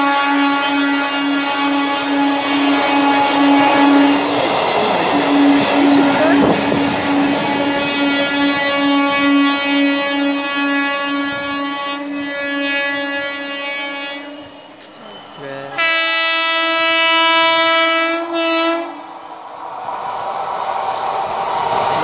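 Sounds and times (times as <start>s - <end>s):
locomotive air horn: 0.0s - 14.7s, 15.8s - 19.1s
pulsing train horn: 0.0s - 19.1s
train rumbling: 0.0s - 22.0s.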